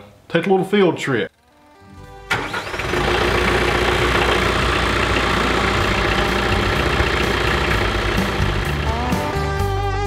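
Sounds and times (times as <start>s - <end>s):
tractor diesel engine running: 1.4s - 9.7s.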